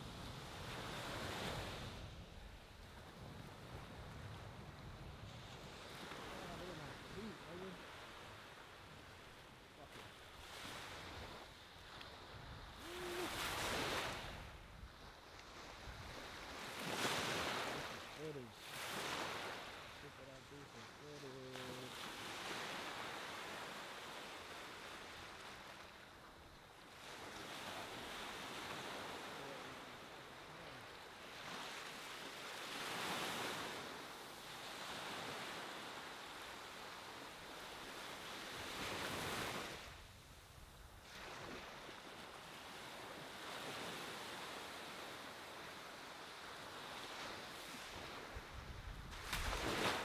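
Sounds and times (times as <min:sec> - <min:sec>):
ocean waves breaking on beach: 0:00.0 - 0:50.0.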